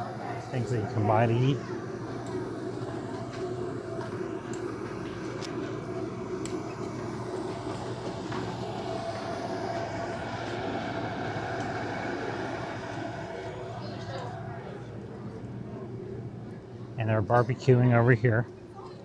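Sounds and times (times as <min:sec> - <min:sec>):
faint whine: 0:00.0 - 0:19.0
mechanical hum and rumble: 0:00.0 - 0:19.0.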